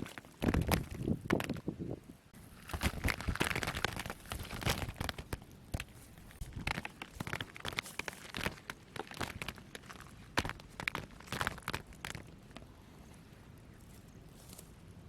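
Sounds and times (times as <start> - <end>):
dry plant material rustling: 0.0 - 1.8, 2.4 - 14.8.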